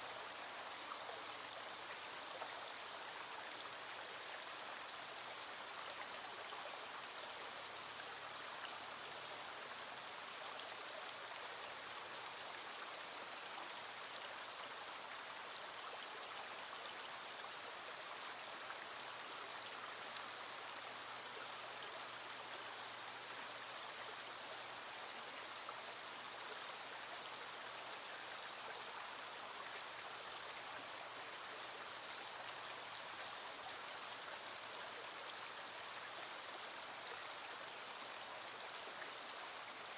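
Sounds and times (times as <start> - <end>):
small stream running: 0.0 - 39.9.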